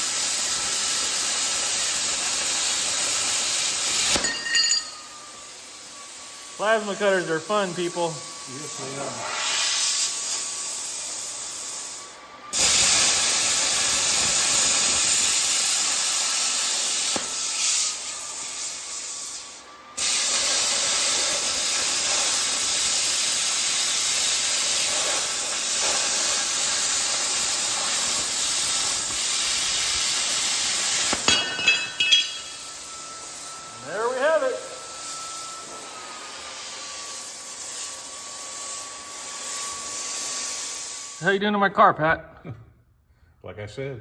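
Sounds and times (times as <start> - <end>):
plasma cutter hissing: 0.0 - 41.4.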